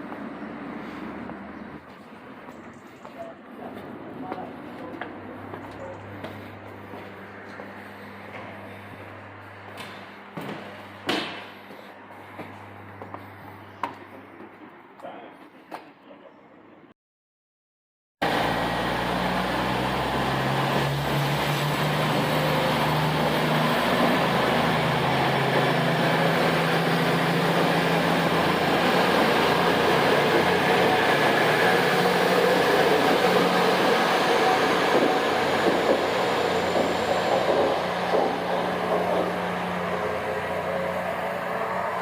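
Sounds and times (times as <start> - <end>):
train running on rails: 0.0 - 16.0, 18.2 - 42.0.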